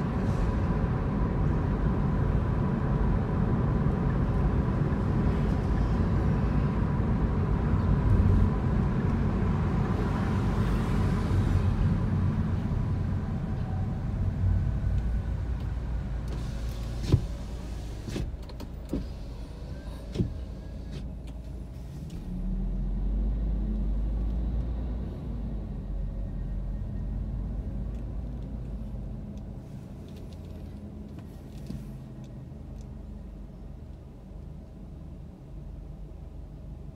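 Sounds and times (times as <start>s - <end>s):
car engine and road noise: 0.0s - 36.9s
steady low rumble: 0.0s - 36.9s.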